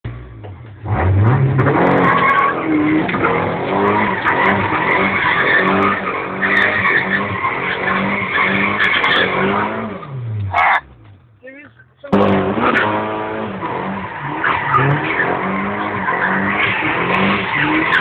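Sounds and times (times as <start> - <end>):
car engine revving: 0.1 - 18.0
tyres squealing and skidding: 1.4 - 11.0, 11.6 - 18.0.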